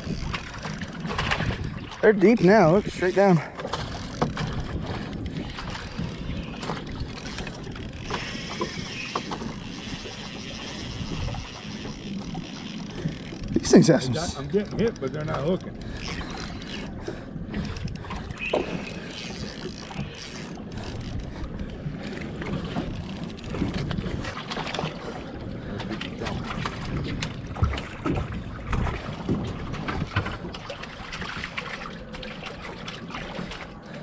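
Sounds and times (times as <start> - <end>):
wind buffeting microphone: 0.0 - 31.5
water slapping boat hull: 0.0 - 34.0.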